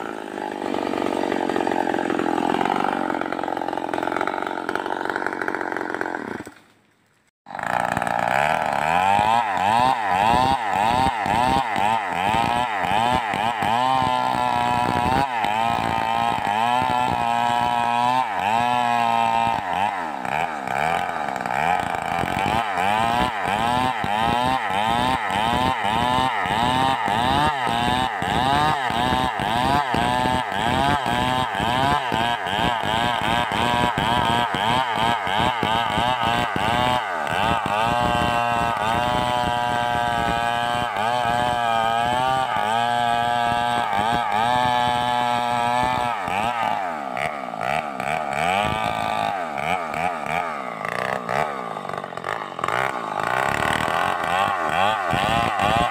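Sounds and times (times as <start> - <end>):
chainsaw revving: 0.0 - 6.7, 7.5 - 55.9.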